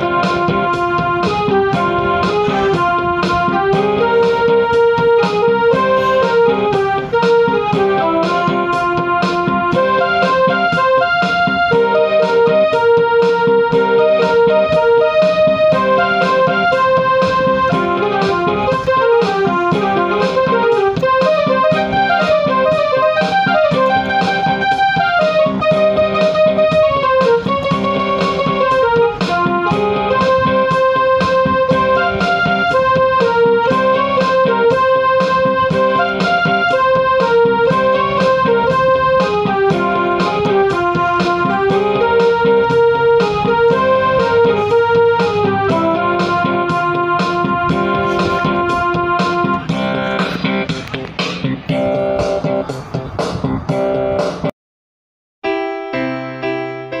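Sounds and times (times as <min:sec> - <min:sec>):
keyboard melody: 0:00.0 - 0:54.5, 0:55.4 - 0:57.0.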